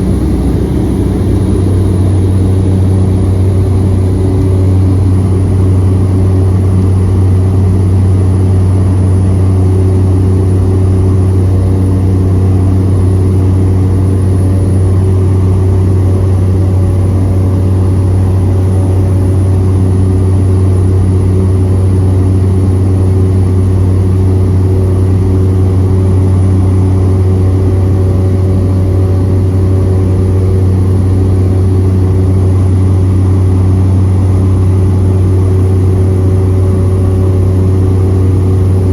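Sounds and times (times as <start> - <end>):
turboprop drone in cabin: 0.0 - 38.9.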